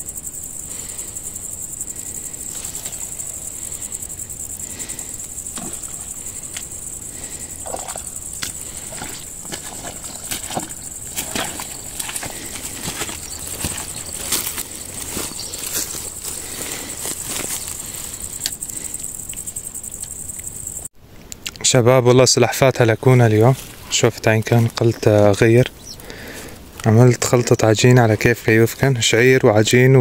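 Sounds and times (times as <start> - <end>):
insects shrilling: 0.0 - 20.9, 22.8 - 30.0.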